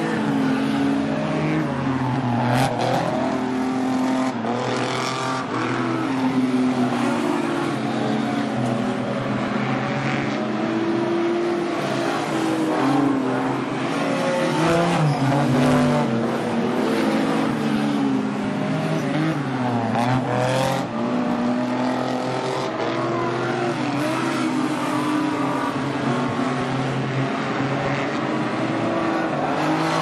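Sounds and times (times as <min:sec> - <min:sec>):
stock car engines revving: 0:00.0 - 0:30.0.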